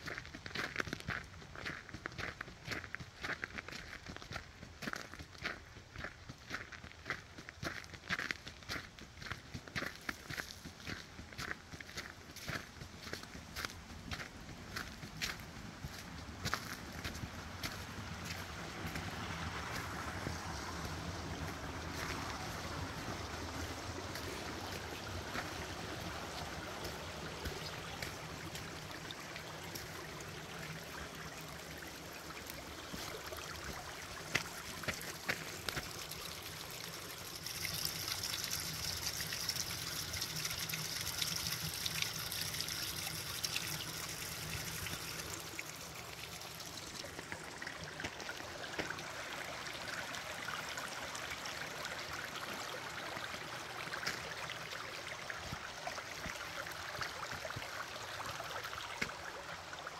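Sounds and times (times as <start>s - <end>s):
creek water running and splashing: 0.0s - 59.9s.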